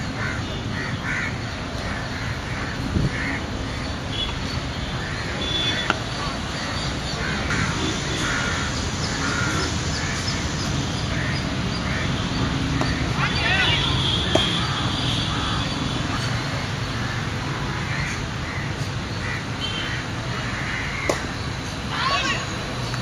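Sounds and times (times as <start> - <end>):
bird calling: 0.2 - 22.6.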